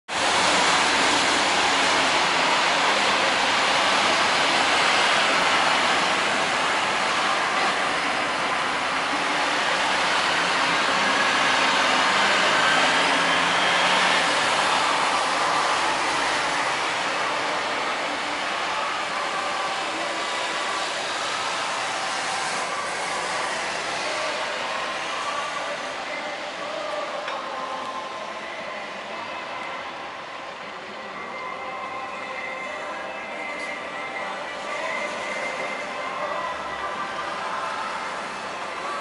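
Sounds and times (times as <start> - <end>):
passing truck: 0.1 - 31.6
tyres hissing on wet road: 0.1 - 39.0.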